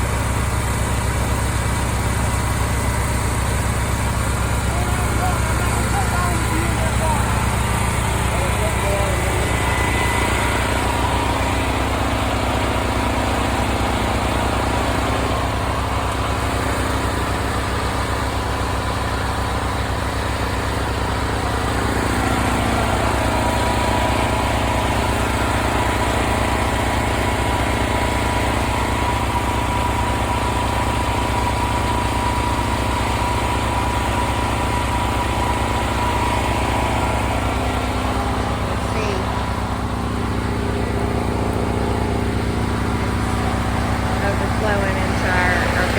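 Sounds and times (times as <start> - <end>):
generator and tractor engine drone: 0.0 - 45.9.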